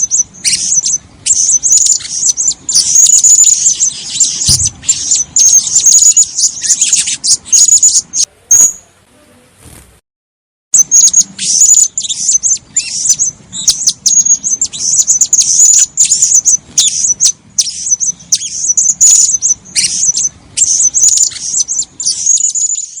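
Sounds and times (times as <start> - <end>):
parrot high-pitched chirps: 0.0 - 8.8, 10.8 - 23.0.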